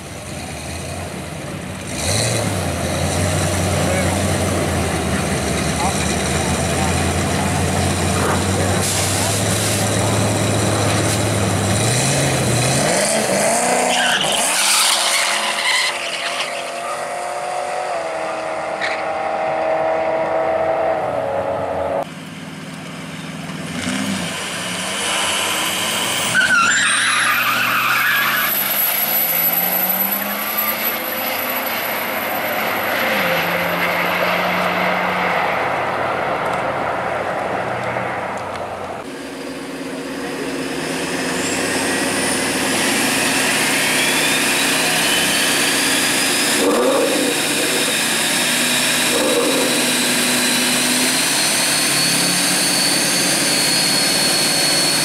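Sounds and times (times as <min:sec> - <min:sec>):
drag racing car engines revving: 0:00.0 - 0:55.0.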